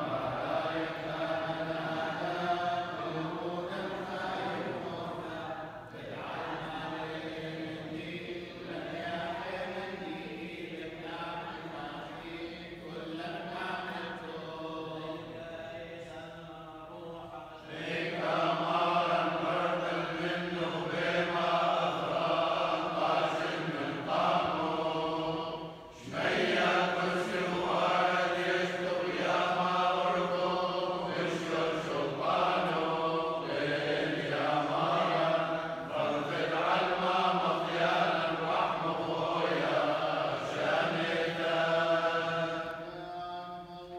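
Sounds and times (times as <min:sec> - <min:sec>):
men chanting prayers: 0:00.0 - 0:43.9.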